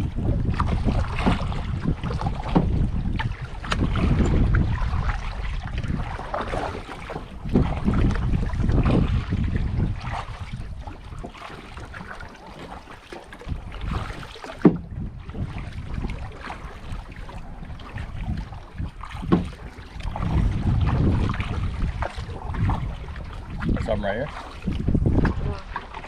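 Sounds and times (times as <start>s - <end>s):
paddle splashing in water: 0.0s - 26.0s
wind on microphone: 0.0s - 26.0s.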